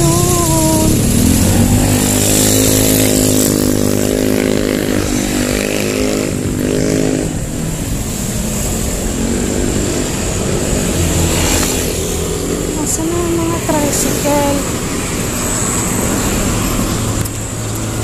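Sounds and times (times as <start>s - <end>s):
motorcycle engine running: 0.0s - 18.0s
street traffic: 0.0s - 18.0s.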